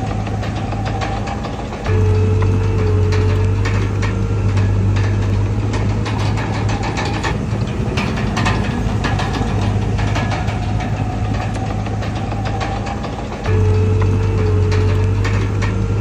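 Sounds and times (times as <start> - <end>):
bulldozer diesel engine humming: 0.0 - 16.0
metal clanks and rattles: 0.0 - 16.0.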